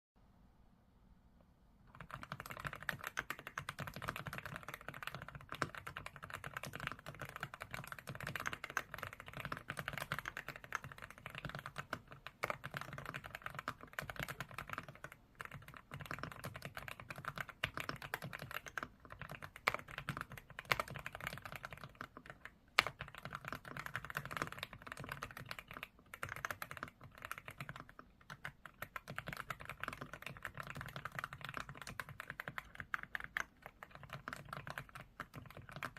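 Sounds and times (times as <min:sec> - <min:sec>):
mechanical keyboard typing: 0:01.9 - 0:35.9.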